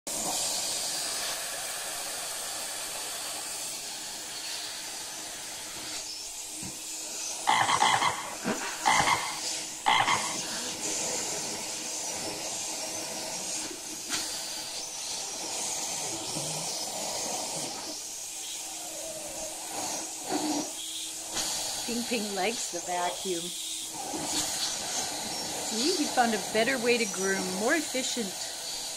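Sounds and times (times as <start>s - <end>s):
loud short vacuum bursts: 0.1s - 7.5s, 10.4s - 28.9s
vacuum nozzle suction hiss: 0.1s - 28.9s.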